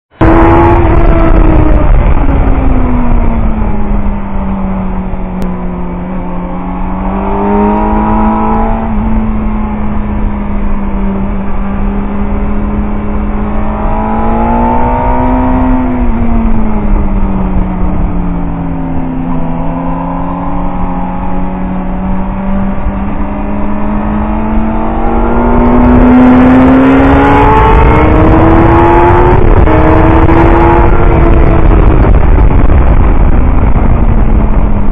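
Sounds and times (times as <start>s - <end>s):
motorcycle engine running hard: 0.1s - 34.9s
wind rush: 0.1s - 34.9s.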